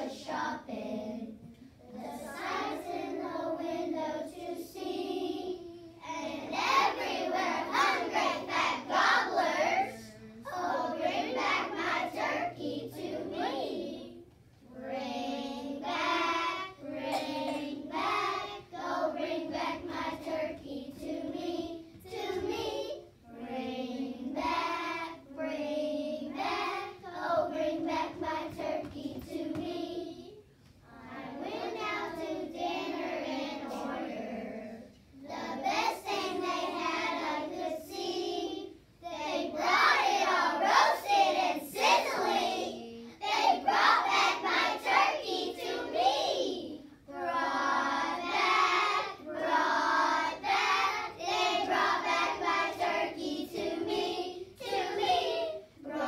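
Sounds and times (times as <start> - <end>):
children singing together: 0.0 - 56.0.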